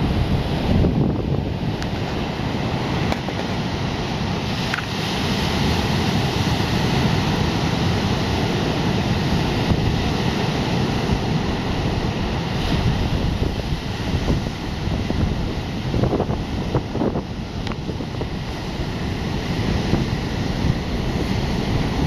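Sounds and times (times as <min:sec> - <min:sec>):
ocean surf breaking on beach: 0:00.0 - 0:22.0
wind buffeting microphone: 0:00.0 - 0:22.0.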